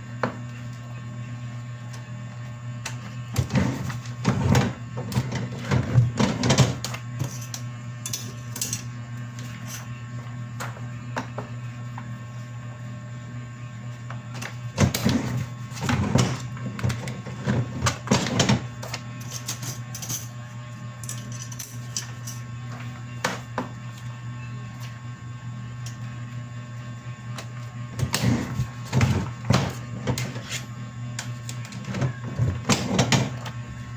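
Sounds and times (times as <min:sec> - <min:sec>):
machine hum: 0:00.0 - 0:33.9.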